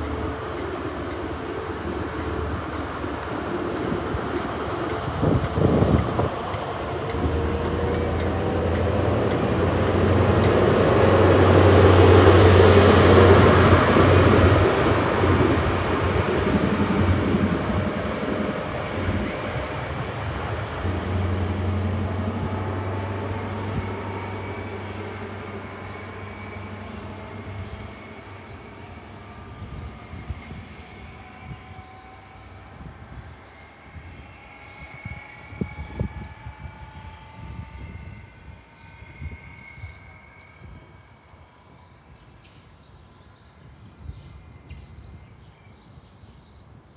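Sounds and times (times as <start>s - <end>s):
rising whine: 0.0s - 42.6s
wheel-on-rail noise: 0.0s - 43.2s
diesel train engine droning: 0.0s - 46.8s.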